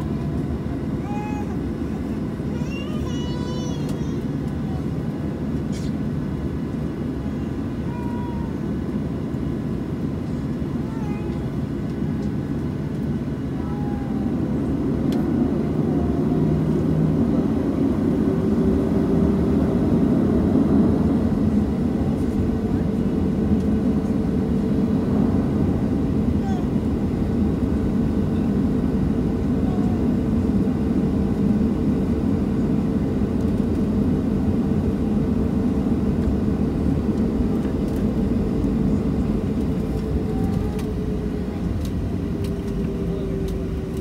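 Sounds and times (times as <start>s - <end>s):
jet engine cabin rumble: 0.0s - 44.0s.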